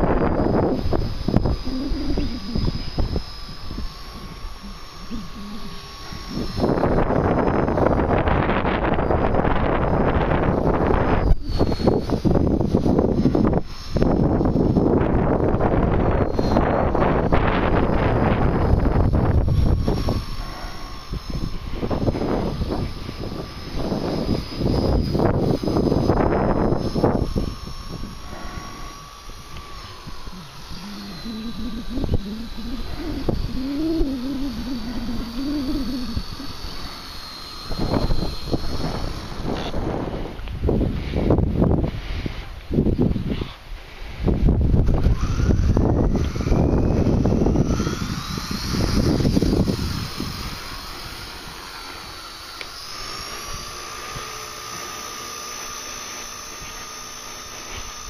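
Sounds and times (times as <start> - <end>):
wind rumbling on microphone: 0.0 - 54.9
rc helicopter motors whining: 0.0 - 58.0.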